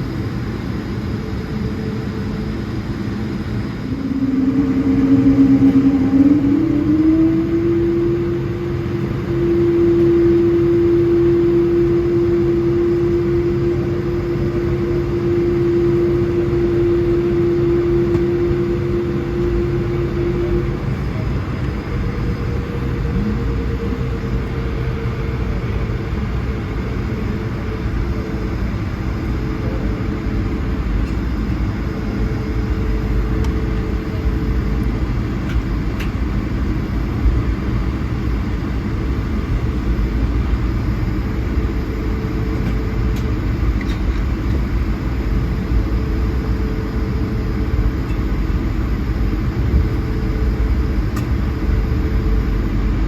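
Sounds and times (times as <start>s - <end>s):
aircraft taxiing rumble: 0.0s - 53.0s
droning hum: 0.0s - 53.0s.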